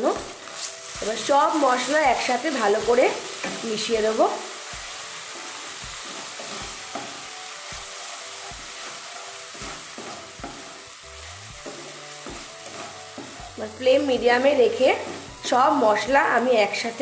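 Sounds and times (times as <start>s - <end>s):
paste sizzling in oil: 0.0s - 17.0s
wooden spatula scraping wok: 0.2s - 10.9s, 11.5s - 16.1s.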